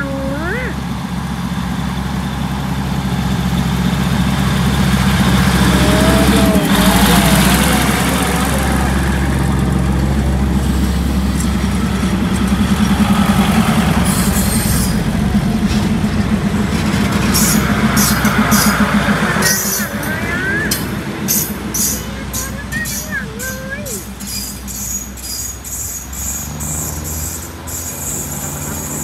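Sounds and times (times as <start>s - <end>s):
locomotive engine humming: 0.0s - 29.0s.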